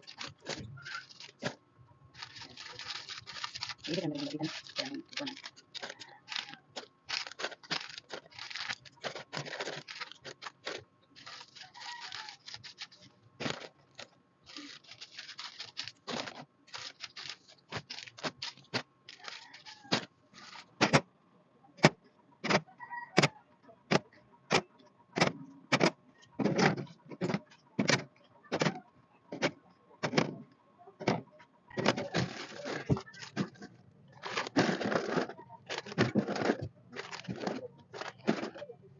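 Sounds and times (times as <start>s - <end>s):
groceries rustling: 0.0s - 21.0s, 23.9s - 38.9s.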